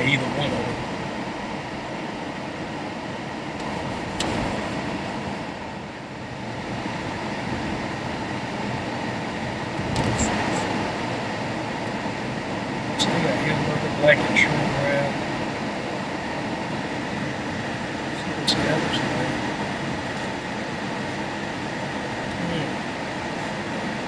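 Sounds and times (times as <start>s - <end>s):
car interior hum and hiss: 0.0s - 24.0s.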